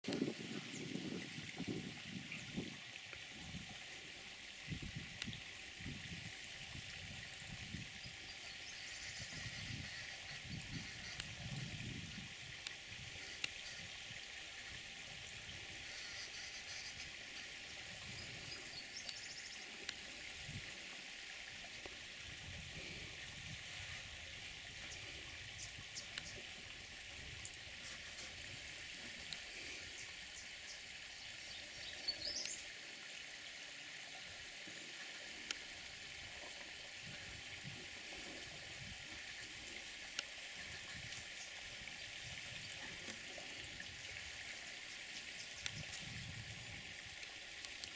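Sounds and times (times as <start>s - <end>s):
open-air hiss: 0.1s - 47.9s.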